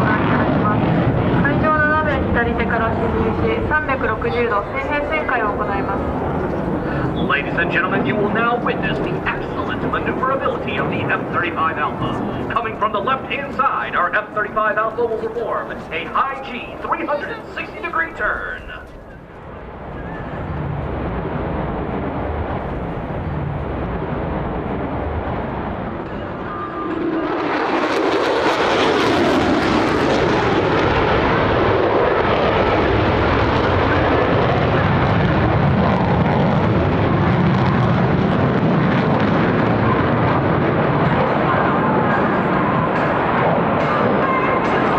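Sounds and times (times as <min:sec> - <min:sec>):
fighter jet engine noise: 0:00.0 - 0:44.9.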